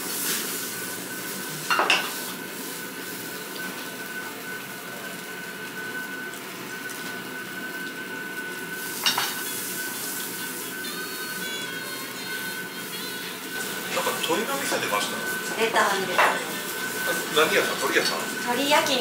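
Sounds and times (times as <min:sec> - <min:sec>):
meat sizzling on a grill: 0:00.0 - 0:19.0.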